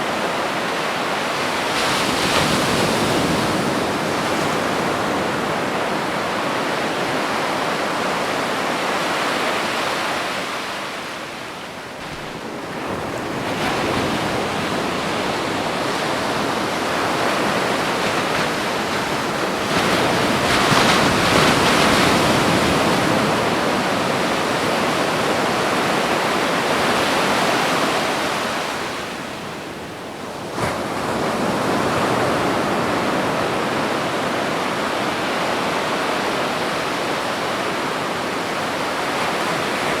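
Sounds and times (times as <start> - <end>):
ocean surf washing onto beach: 0.0 - 40.0.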